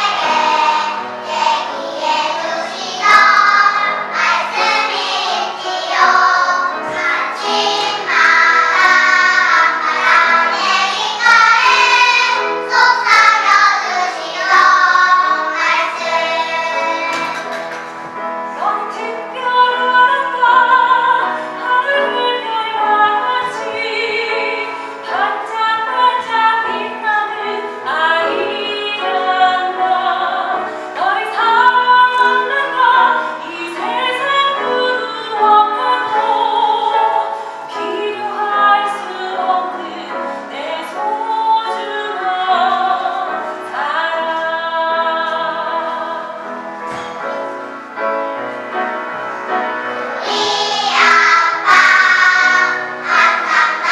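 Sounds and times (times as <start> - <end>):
children's choir singing: 0.0 - 53.9.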